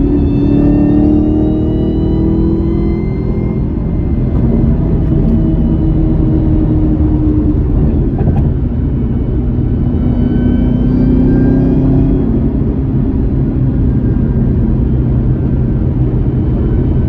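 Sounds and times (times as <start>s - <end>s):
car engine: 0.0s - 17.0s
road rumble: 0.0s - 17.0s.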